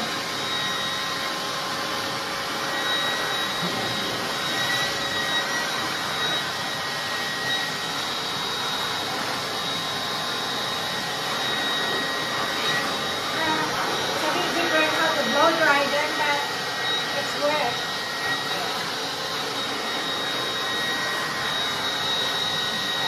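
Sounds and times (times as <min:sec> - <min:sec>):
handheld blower running: 0:00.0 - 0:23.0.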